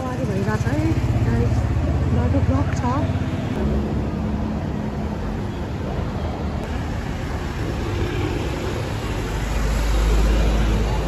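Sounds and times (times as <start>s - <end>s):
cars driving past: 0.0s - 11.0s
deep vehicle rumble: 0.0s - 11.0s.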